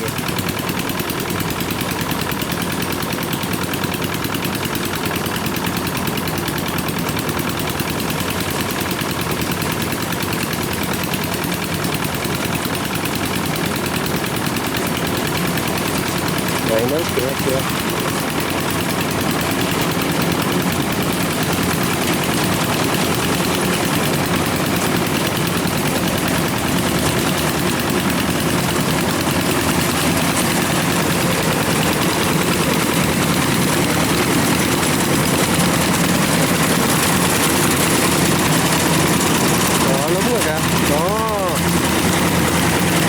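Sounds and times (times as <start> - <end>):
diesel engine running under load: 0.0 - 43.0.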